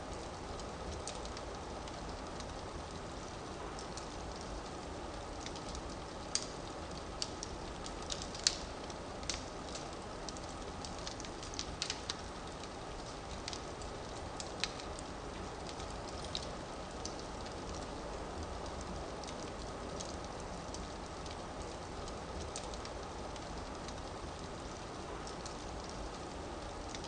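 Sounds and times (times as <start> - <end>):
fire flames hissing and rumbling: 0.0 - 27.0
firewood crackling and popping: 0.0 - 27.0.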